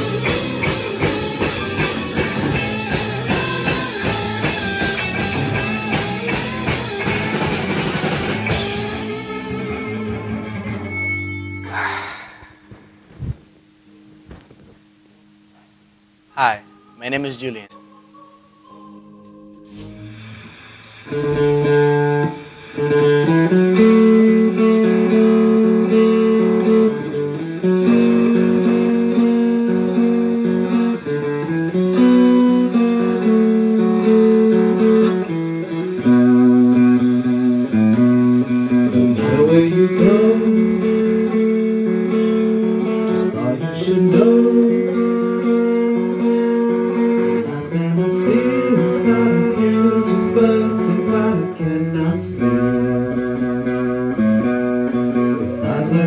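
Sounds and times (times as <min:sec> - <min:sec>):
rock band playing live: 0:00.0 - 0:11.8, 0:19.7 - 0:56.0.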